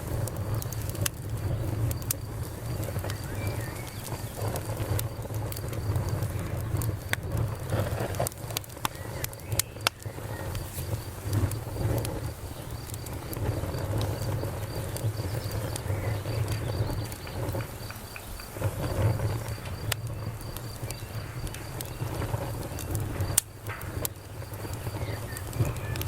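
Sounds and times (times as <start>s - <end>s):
campfire crackling and popping: 0.0s - 26.0s
cricket chirping: 1.4s - 7.2s, 8.0s - 26.0s.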